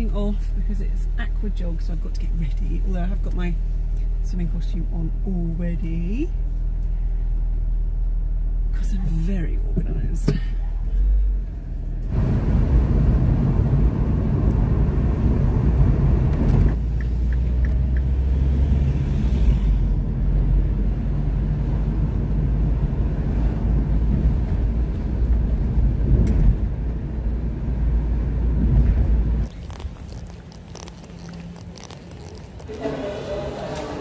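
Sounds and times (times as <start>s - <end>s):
air through open window: 0.0s - 34.0s
car engine rumble: 0.0s - 34.0s
road noise: 0.0s - 34.0s.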